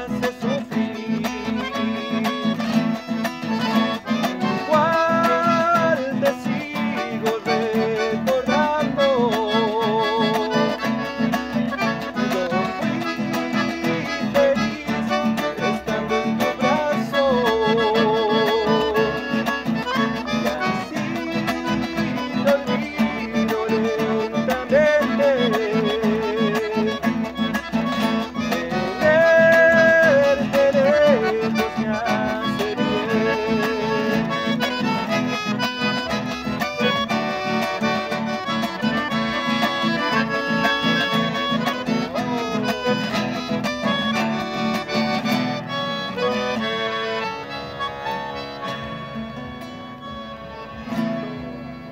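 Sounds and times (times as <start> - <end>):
accordion melody: 0.0 - 51.9
acoustic guitar strumming: 0.0 - 51.9.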